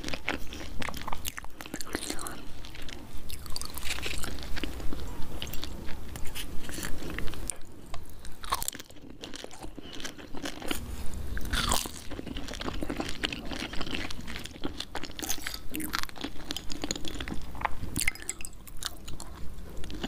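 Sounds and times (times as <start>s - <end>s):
crunching and chewing crisp snacks: 0.0s - 20.0s.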